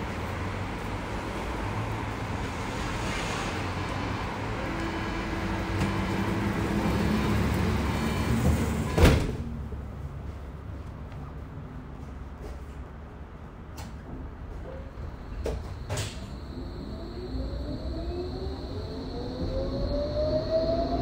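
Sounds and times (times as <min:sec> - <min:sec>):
tram rolling noise: 0:00.0 - 0:21.0.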